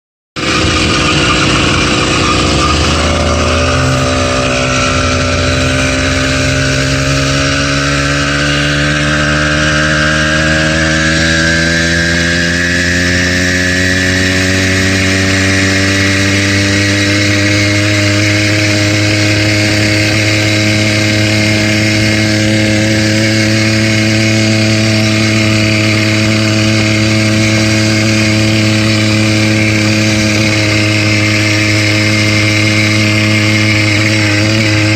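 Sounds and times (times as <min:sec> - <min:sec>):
engine knock: 0:00.4 - 0:34.9
two-stroke engine running: 0:00.4 - 0:34.9.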